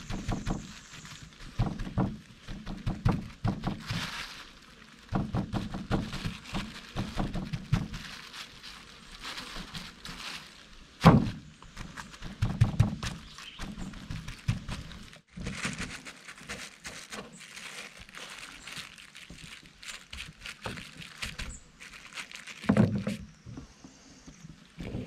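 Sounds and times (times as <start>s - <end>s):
plastic bag crinkling: 0.0s - 23.4s.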